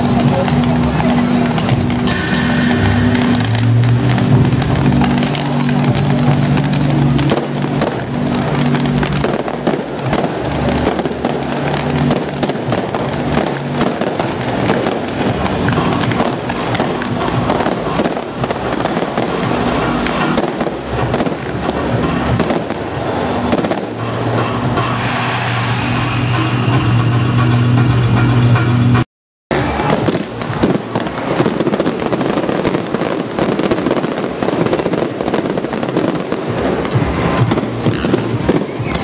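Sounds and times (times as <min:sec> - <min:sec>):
fireworks crackling and popping: 0:00.0 - 0:39.0
music: 0:00.0 - 0:39.0.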